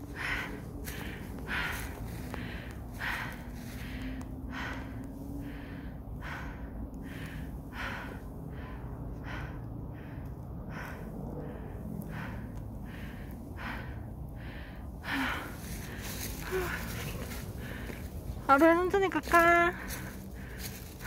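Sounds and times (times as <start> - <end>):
person breathing heavily: 0.0 - 21.0.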